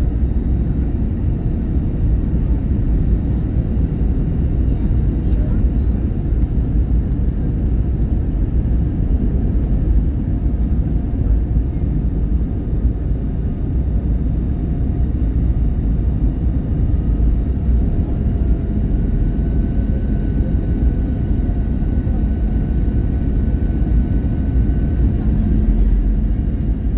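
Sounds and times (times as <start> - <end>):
airliner cabin rumble: 0.0 - 26.9
faint high engine whine: 0.0 - 26.9.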